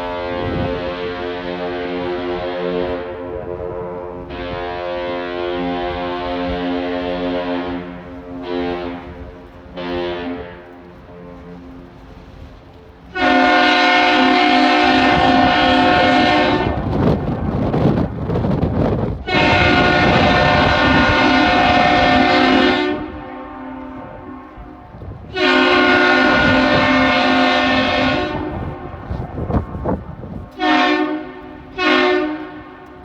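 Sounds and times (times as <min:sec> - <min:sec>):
gusty wind rumbling: 0:00.0 - 0:33.0
ship horn blasts: 0:00.0 - 0:33.0.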